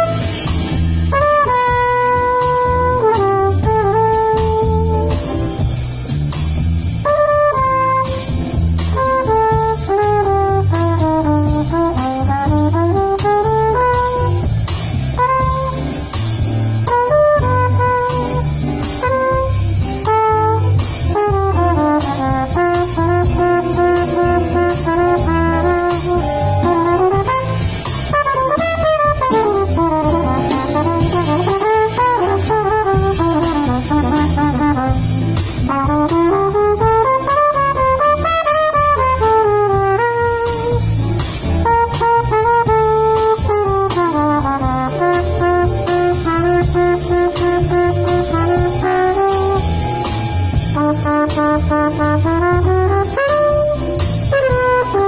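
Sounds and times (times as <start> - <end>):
bass: 0.0 - 55.0
drums: 0.0 - 55.0
flugelhorn jazz melody: 0.0 - 55.0.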